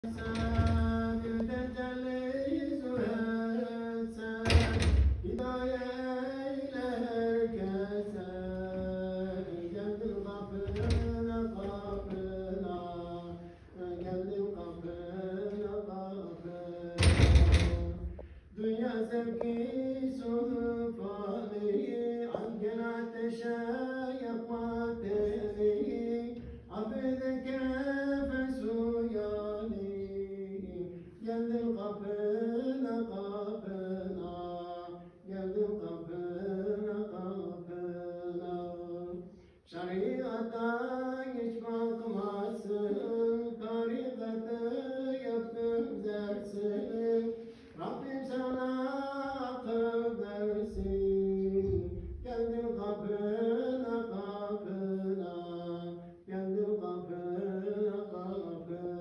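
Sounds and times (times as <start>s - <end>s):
man chanting a devotional hymn: 0.0s - 59.0s.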